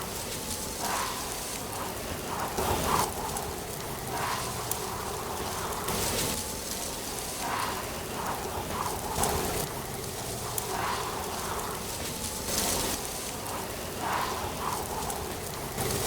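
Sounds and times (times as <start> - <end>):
rustling outdoor ambience: 0.0 - 16.0.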